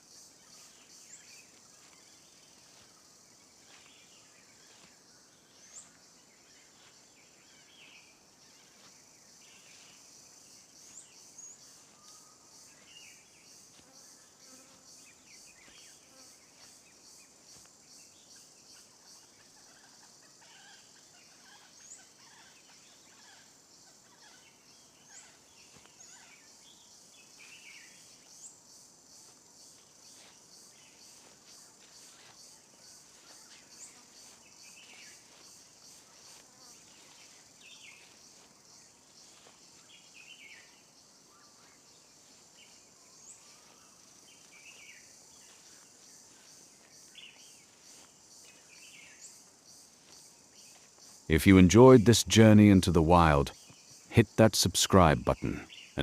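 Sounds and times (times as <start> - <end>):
high insect drone: 0.0 - 51.3.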